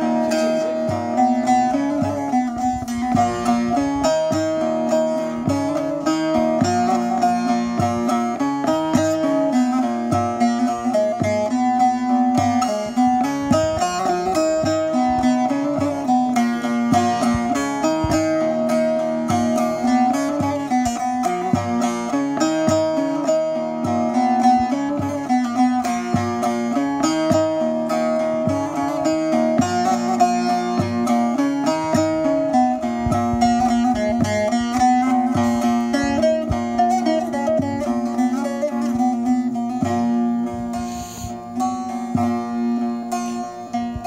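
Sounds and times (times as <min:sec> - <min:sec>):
plucked lute picked notes: 0:00.0 - 0:44.0.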